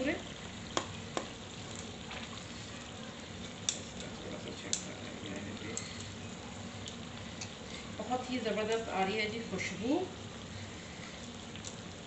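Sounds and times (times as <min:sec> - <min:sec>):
chicken and tomatoes frying in oil: 0:00.0 - 0:12.0.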